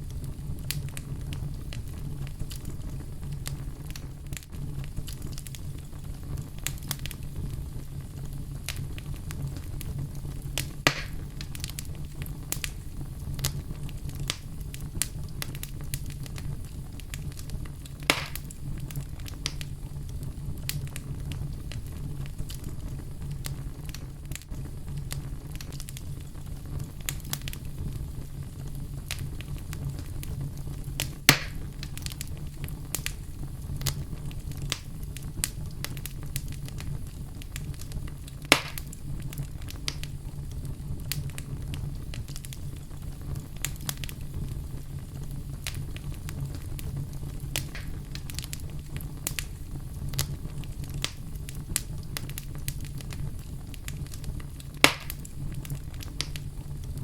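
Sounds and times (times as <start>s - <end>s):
fire burning with crackles: 0.0s - 57.0s
loud fire pops: 0.0s - 57.0s.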